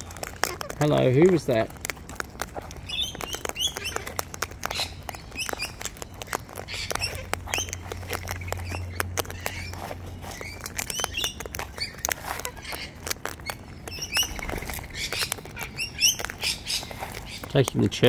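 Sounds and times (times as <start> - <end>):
birds pecking and cracking seed: 0.0 - 18.0.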